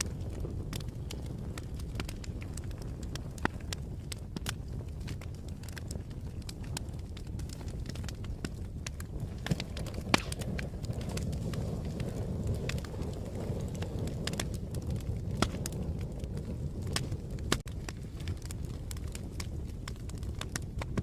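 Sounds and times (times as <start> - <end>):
fire crackling: 0.0 - 21.0.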